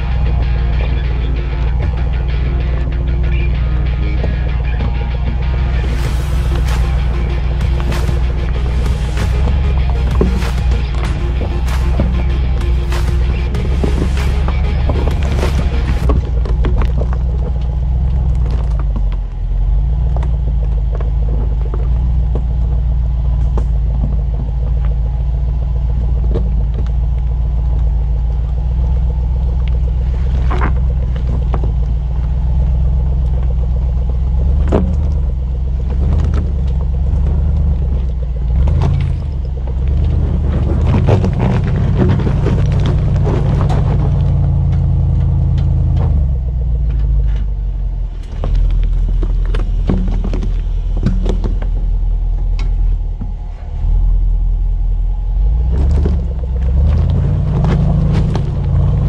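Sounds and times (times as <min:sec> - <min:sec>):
low engine rumble: 0:00.0 - 0:59.0
rocks crunching under tyres: 0:00.0 - 0:59.0.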